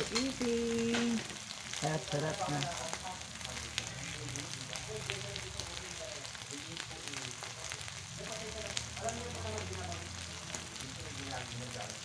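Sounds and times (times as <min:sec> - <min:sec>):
food sizzling in oil: 0:00.0 - 0:12.0
oil popping and crackling: 0:00.0 - 0:12.0.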